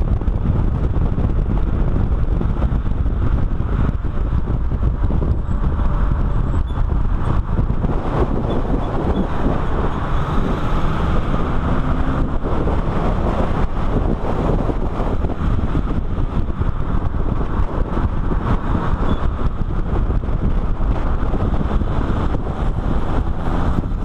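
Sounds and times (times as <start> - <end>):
car engine at speed: 0.0 - 24.0
wind buffeting microphone: 0.0 - 24.0.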